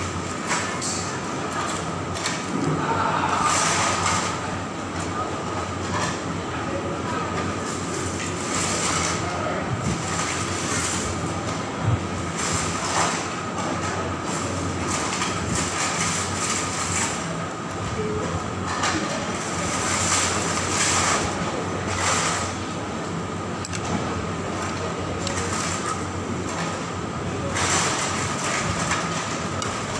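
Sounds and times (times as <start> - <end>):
mechanical hum with high whine: 0.0 - 29.9.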